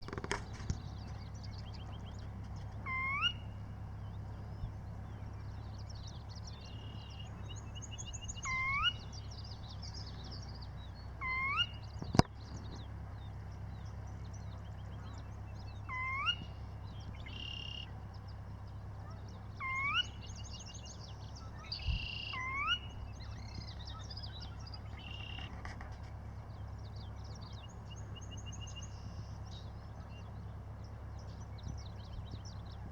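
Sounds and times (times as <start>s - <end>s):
bird rising call: 0.0s - 12.7s, 14.6s - 30.5s
small birds chirping and trilling: 0.0s - 32.9s
steady low hum: 0.0s - 32.9s.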